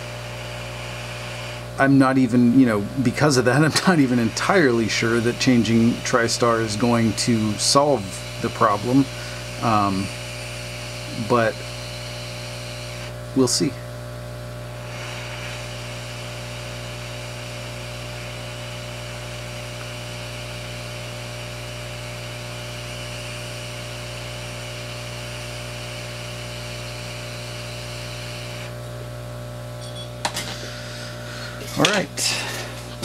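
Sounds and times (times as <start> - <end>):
hot air blower: 0.0 - 13.8, 14.6 - 29.0, 30.3 - 33.0.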